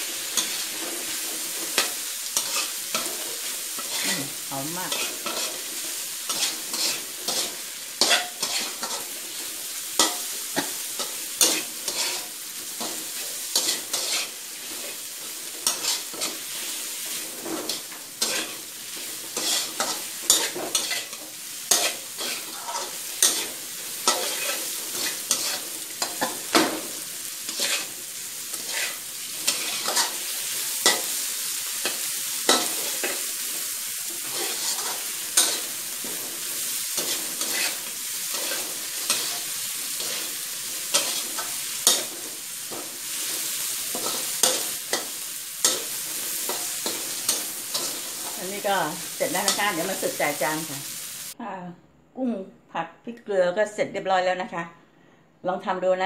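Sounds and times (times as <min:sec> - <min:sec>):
metal spatula scraping wok: 0:00.0 - 0:51.3
hot oil sizzling: 0:00.0 - 0:51.4.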